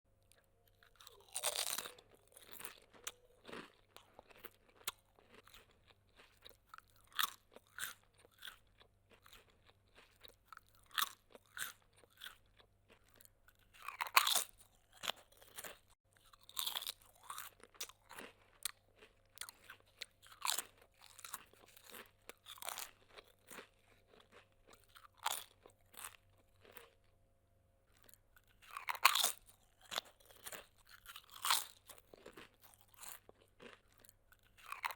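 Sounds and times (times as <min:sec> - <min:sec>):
crunching bites of food: 0:00.3 - 0:27.1, 0:27.9 - 0:34.9
chewing crunches: 0:00.3 - 0:27.2, 0:27.9 - 0:34.9.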